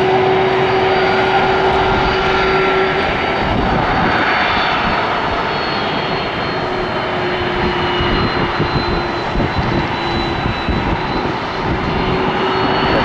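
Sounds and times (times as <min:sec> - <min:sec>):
jet engines rushing: 0:00.0 - 0:13.0
thin engine whine: 0:00.0 - 0:13.0.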